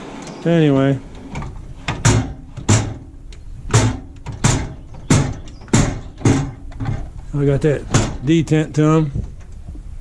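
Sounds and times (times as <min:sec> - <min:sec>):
metal drawers sliding: 0:00.0 - 0:08.5.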